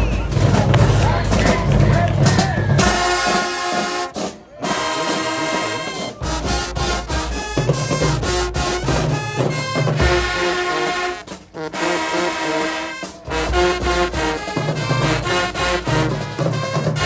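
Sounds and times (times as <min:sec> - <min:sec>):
marching band brass playing: 0:00.0 - 0:17.0.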